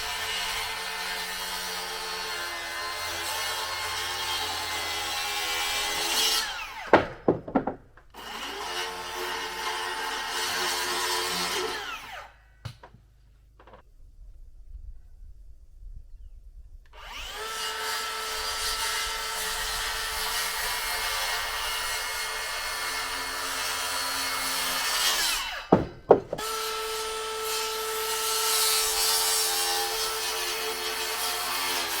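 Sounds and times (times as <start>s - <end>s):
power tool cutting wood: 0.0s - 12.3s, 17.0s - 32.0s.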